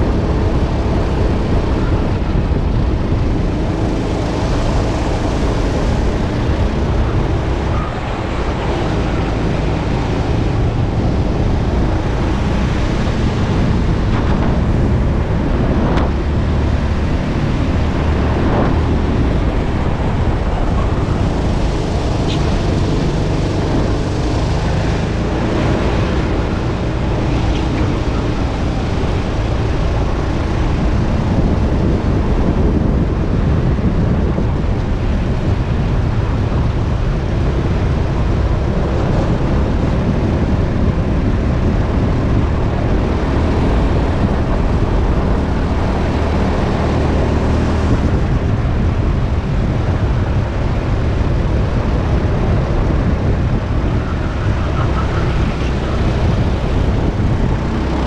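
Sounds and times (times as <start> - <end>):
kart engine running: 0.0 - 58.0
wind rush on microphone: 0.0 - 58.0.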